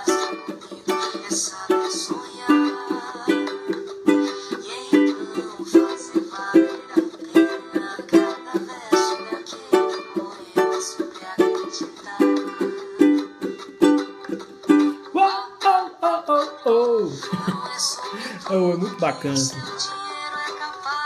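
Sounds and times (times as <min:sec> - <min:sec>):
ukulele fingerpicked: 0:00.0 - 0:19.8
person singing: 0:00.0 - 0:21.0.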